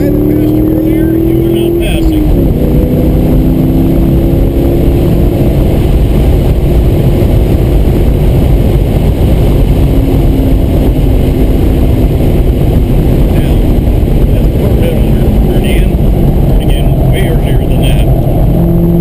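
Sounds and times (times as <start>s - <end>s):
car engine running hard: 0.0s - 19.0s.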